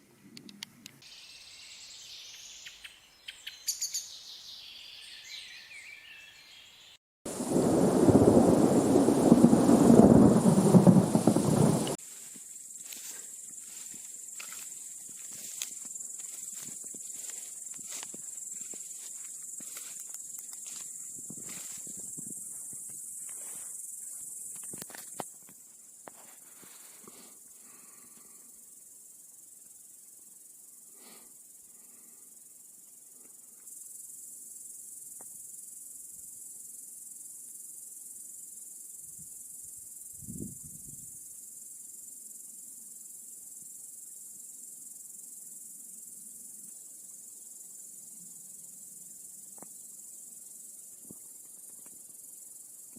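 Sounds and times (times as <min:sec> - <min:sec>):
crickets chirring: 0:00.6 - 0:52.9.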